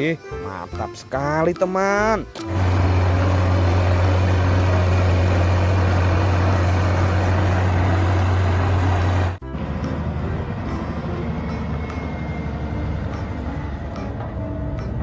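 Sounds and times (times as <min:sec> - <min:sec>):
heavy engine idling: 0:02.4 - 0:15.0.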